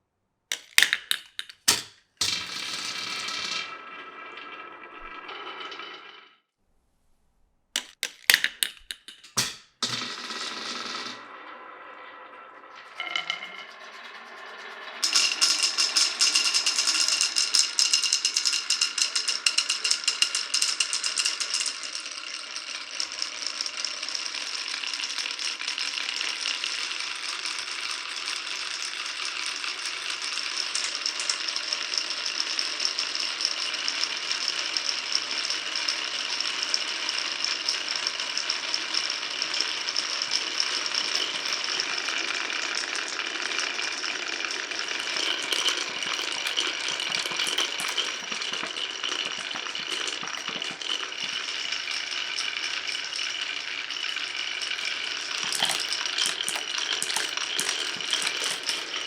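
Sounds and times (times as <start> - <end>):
marbles clattering on wooden track: 0.5 - 6.3, 7.8 - 59.0.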